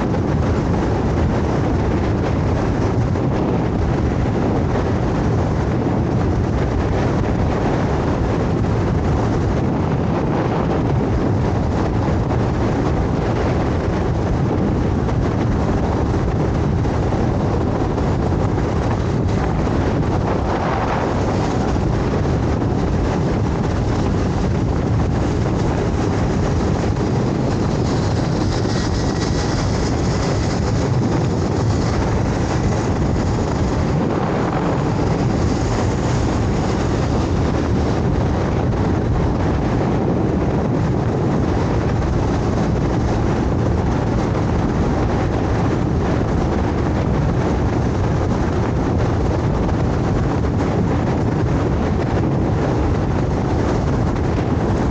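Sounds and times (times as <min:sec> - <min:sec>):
scooter road noise: 0:00.0 - 0:54.9
wind rush on microphone: 0:00.0 - 0:54.9.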